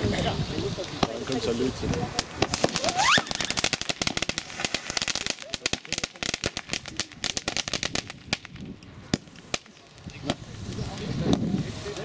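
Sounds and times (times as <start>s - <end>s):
firecrackers banging: 2.1s - 12.0s.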